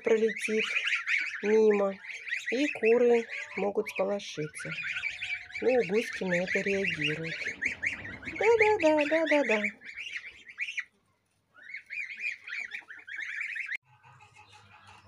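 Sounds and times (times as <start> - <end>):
goslings peeping: 0.0 - 15.0.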